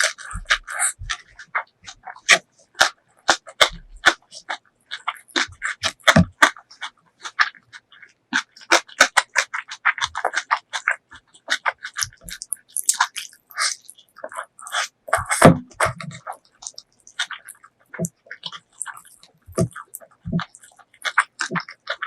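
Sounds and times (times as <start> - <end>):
chewing and mouth clicks: 0.0 - 22.0.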